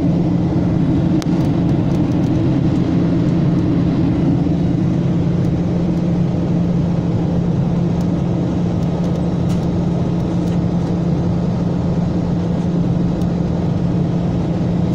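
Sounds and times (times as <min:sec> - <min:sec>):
airliner cabin jet engine drone: 0:00.0 - 0:14.9.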